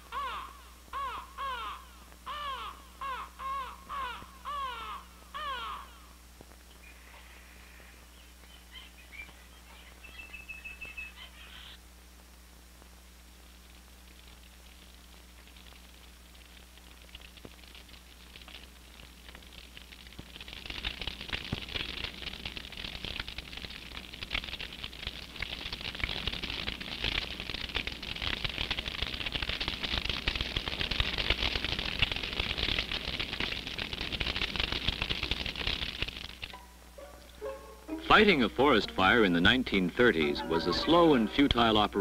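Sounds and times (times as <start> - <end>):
forest fire crackling: 0.0 - 42.0.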